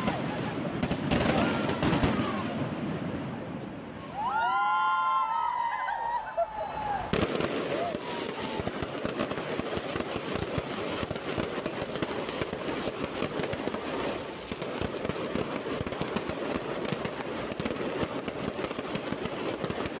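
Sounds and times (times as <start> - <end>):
fireworks crackling: 0.0 - 4.0, 6.8 - 20.0.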